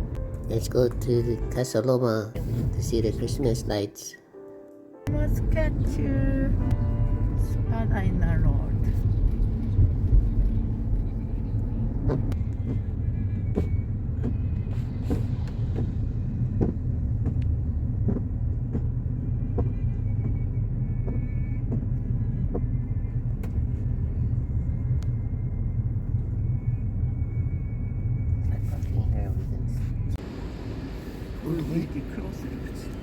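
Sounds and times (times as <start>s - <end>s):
road and engine rumble in car: 0.0s - 1.6s, 2.4s - 3.8s, 5.1s - 33.0s.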